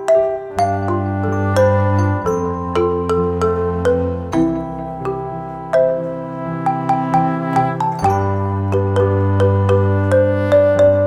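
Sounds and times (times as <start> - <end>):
instrumental music with bell-like notes: 0.0 - 11.0.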